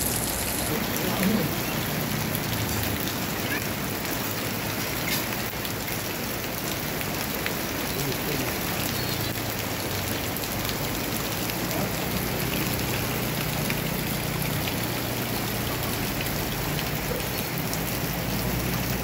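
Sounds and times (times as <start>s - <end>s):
heavy rain falling: 0.0s - 19.0s
raindrops ticking on surfaces: 0.0s - 19.0s.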